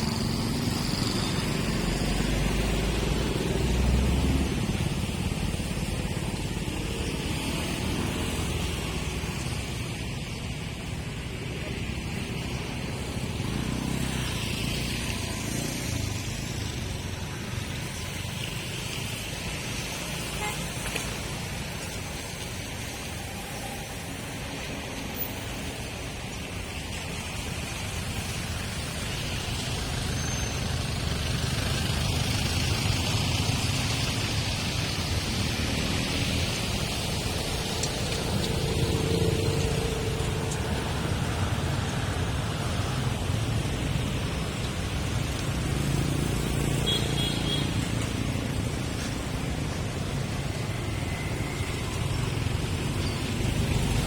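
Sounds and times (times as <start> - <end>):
traffic on wet road: 0.0 - 54.0.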